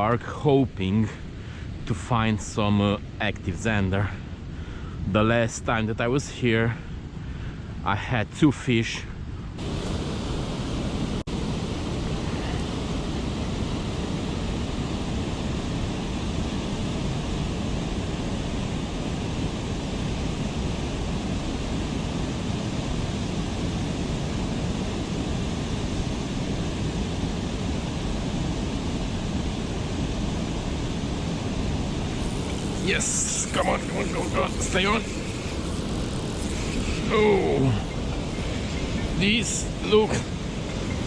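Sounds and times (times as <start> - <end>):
steady rushing outdoor hiss: 0.0 - 41.0.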